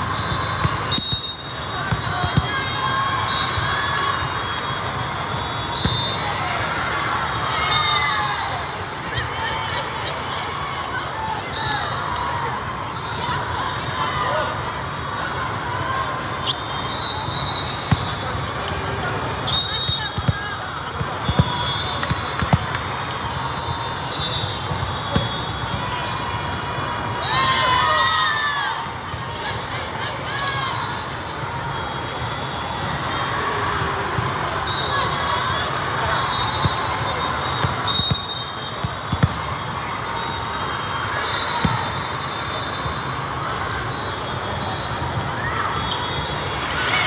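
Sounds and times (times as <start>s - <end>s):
murmur of crowd in hall: 0.0s - 47.0s.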